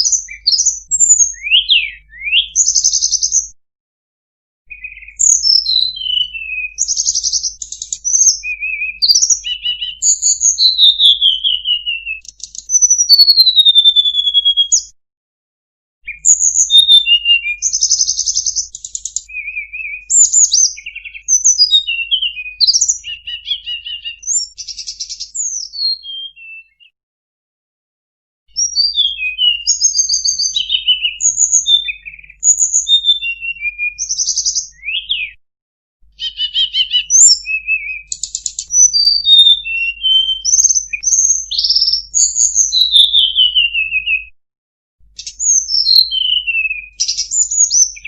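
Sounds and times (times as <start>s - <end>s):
bird singing varied song: 0.0s - 3.6s, 4.7s - 15.0s, 16.0s - 27.0s, 28.5s - 35.4s, 36.0s - 44.4s, 45.0s - 48.0s.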